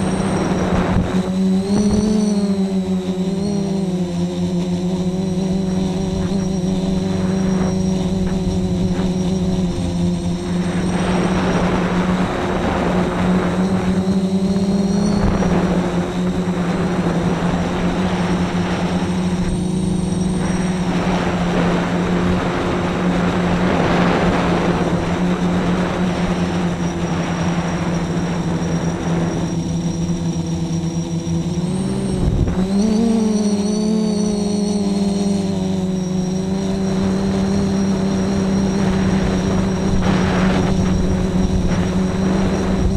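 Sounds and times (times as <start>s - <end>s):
drone propellers buzzing: 0.0s - 42.9s
wind noise rushes: 0.0s - 42.9s.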